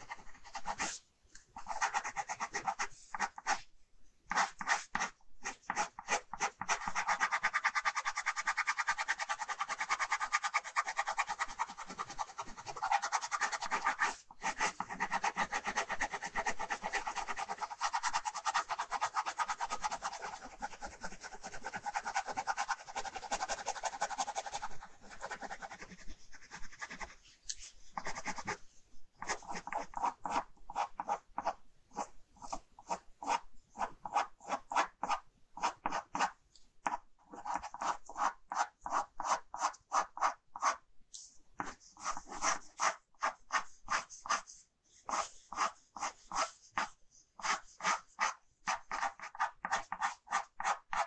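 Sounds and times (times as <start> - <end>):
ballpoint pen scratching on paper: 0.0 - 1.0, 1.6 - 3.7, 4.3 - 28.6, 29.2 - 40.8, 41.6 - 51.0.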